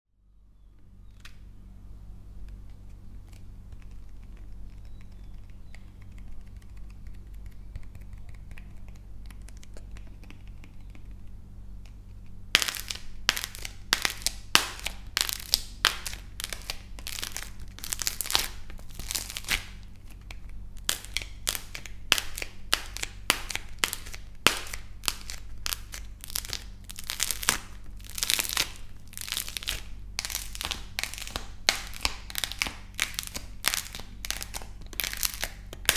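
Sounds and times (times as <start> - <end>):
dry clay crackling and crunching: 2.4 - 35.9.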